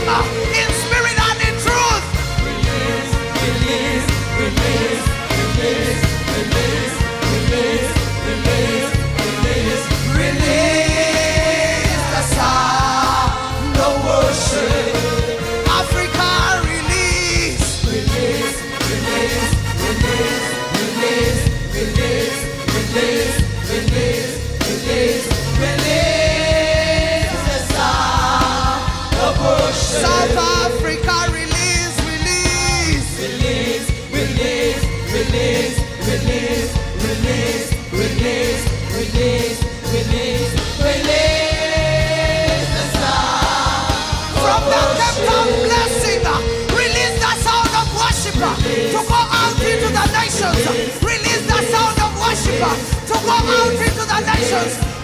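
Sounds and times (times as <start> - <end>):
band with steady beat: 0.0 - 55.0
voices singing held notes: 0.0 - 55.0.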